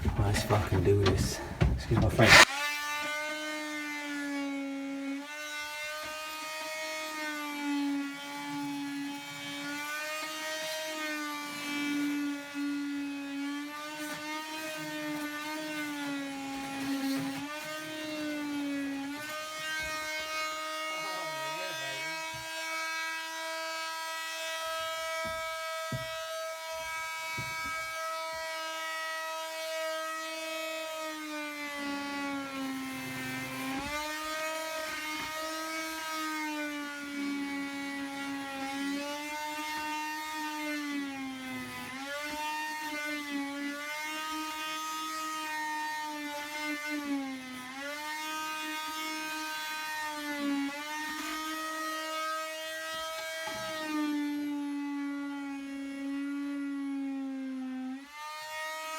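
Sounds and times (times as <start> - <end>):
oscillating multi-tool buzzing whine: 1.4 - 58.9.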